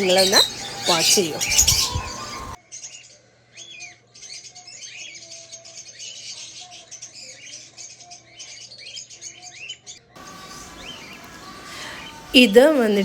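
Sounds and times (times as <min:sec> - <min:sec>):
young cockatiels chirping: 0:00.0 - 0:03.0, 0:03.6 - 0:13.0.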